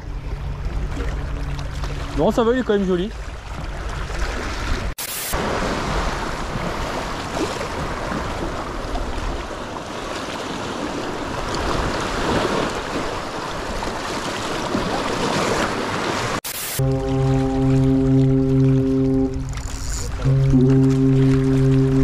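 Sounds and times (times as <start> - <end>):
waves breaking over rocks: 0.8 - 22.0.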